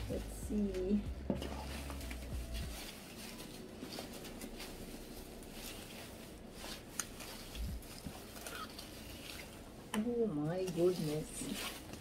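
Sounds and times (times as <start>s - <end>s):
cloth and plastic rustling: 0.0s - 12.0s.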